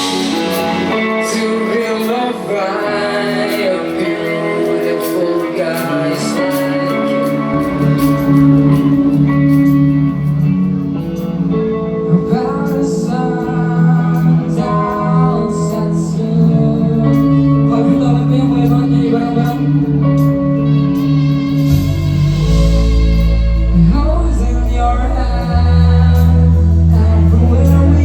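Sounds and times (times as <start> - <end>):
bass guitar: 0.0 - 28.0
drums: 0.0 - 28.0
electric guitar: 0.0 - 28.0
person singing: 0.0 - 28.0.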